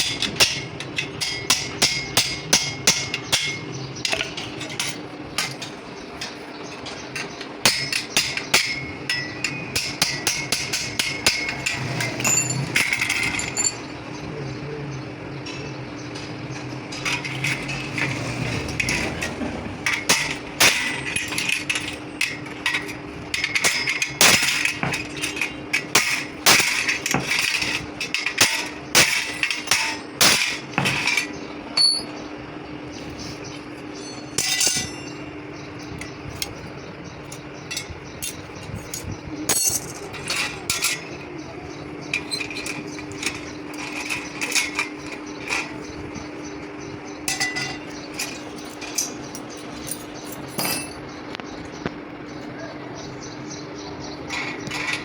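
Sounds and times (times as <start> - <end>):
hand tools clinking on metal: 0.0 - 14.2, 15.3 - 32.3, 33.2 - 51.2, 54.0 - 55.0
steady hum: 0.0 - 55.0.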